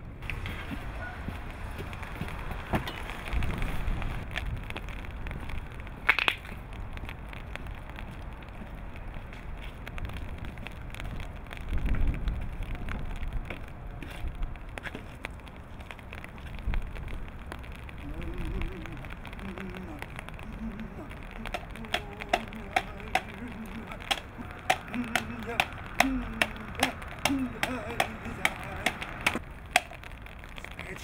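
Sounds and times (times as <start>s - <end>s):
crackles and clicks: 0.2s - 31.0s.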